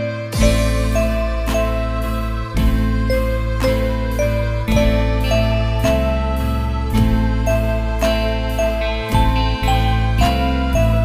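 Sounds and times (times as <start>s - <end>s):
bell-like ringtone melody: 0.0s - 11.0s.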